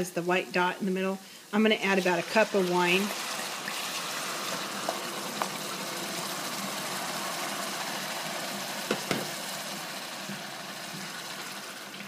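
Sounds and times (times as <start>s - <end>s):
wine sizzling in a hot pan: 0.0s - 12.0s.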